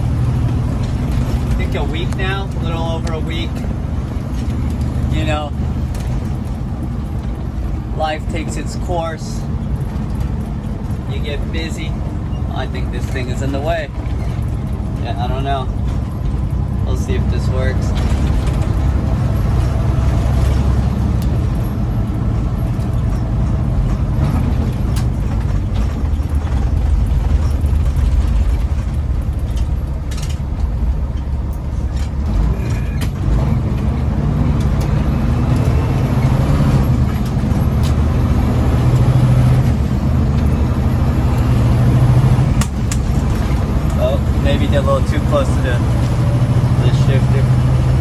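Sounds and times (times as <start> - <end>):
road noise: 0.0 - 48.0
truck diesel engine rumble: 0.0 - 48.0.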